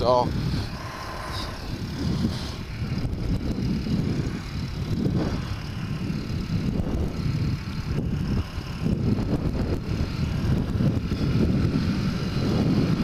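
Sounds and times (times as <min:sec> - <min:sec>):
motorcycle engine running: 0:00.0 - 0:13.0
wind rumbling on microphone: 0:00.0 - 0:13.0.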